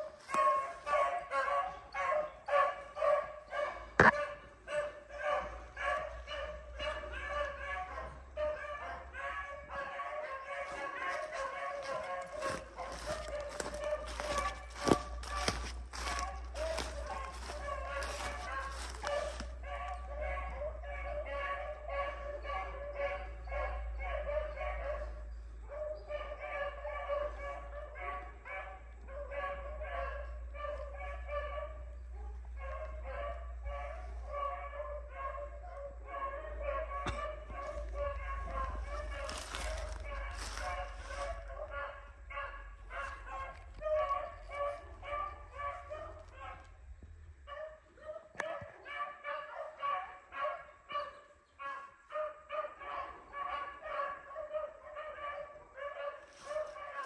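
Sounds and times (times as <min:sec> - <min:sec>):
hounds baying: 0:00.0 - 0:57.0.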